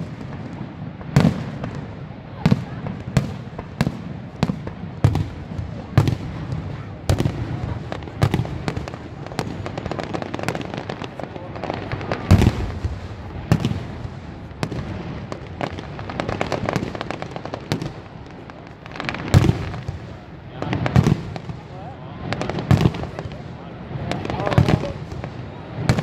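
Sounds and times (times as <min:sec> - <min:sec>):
fireworks crackles and pops: 0:00.0 - 0:26.0
fireworks deep booms: 0:00.0 - 0:26.0.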